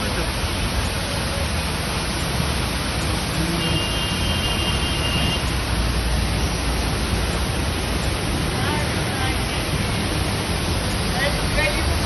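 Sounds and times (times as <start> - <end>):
floodwater rushing down a street: 0.0 - 12.0
heavy rain: 0.0 - 12.0.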